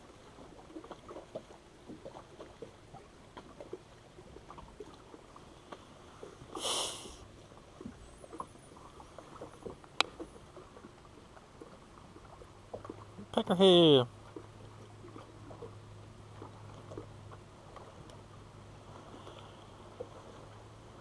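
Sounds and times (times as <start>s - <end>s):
water slapping boat hull: 0.0s - 21.0s.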